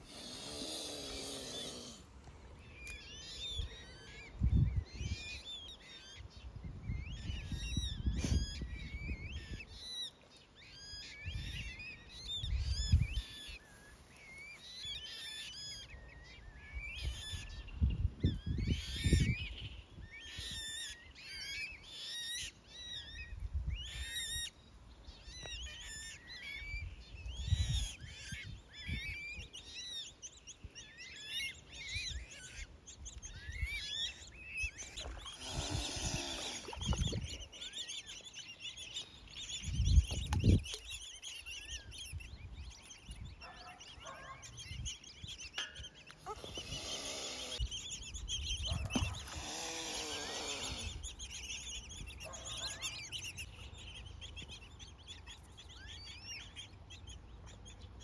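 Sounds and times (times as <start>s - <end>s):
cygnets peeping: 0.0s - 58.0s.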